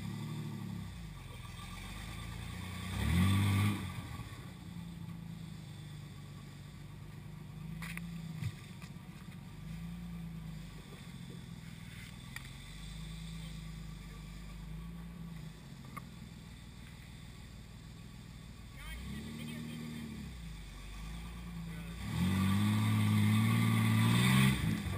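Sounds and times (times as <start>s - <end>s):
vehicle engine running: 0.0s - 24.9s.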